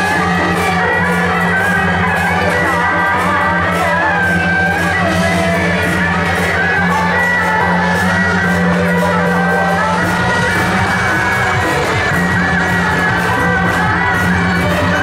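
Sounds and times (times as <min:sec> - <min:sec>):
procession music with drone: 0:00.0 - 0:15.0.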